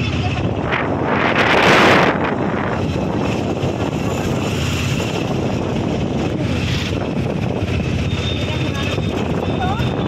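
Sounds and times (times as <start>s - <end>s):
auto-rickshaw engine running: 0.0s - 10.0s
road rumble: 0.0s - 10.0s
wind noise on microphone: 0.0s - 10.0s.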